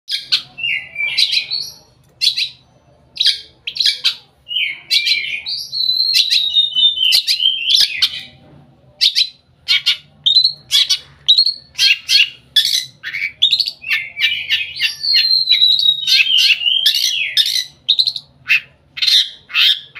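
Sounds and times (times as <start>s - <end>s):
bird chattering and whistling: 0.1s - 8.4s, 9.0s - 19.9s.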